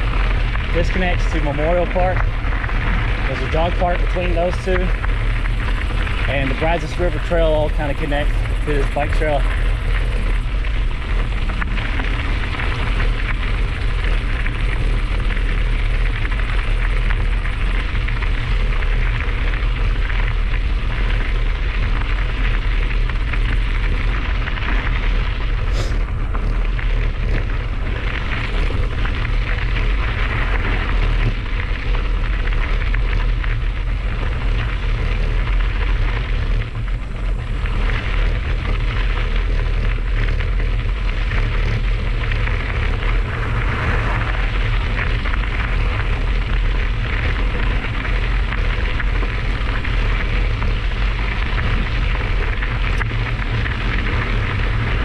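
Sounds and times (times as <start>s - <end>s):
bike tyres crunching on gravel: 0.0s - 55.0s
wind buffeting microphone: 0.0s - 55.0s.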